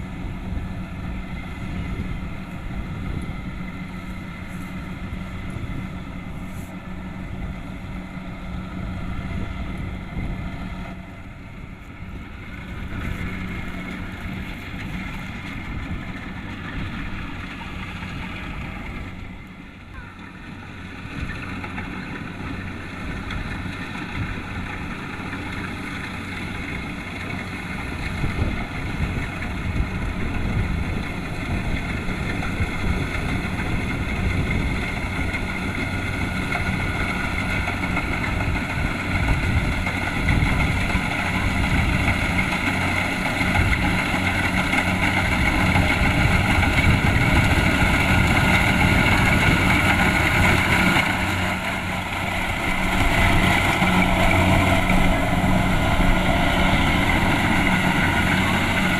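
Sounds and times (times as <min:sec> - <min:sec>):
diesel engine droning: 0:00.0 - 0:58.9
machinery whine: 0:00.0 - 0:58.9.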